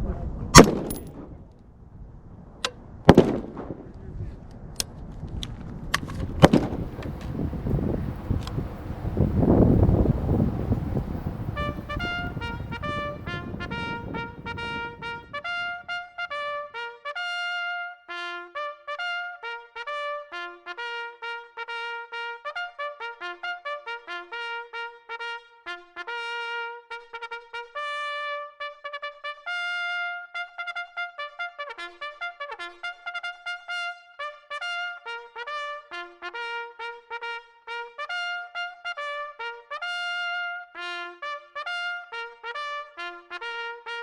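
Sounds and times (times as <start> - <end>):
solo trumpet melody: 6.4 - 44.0.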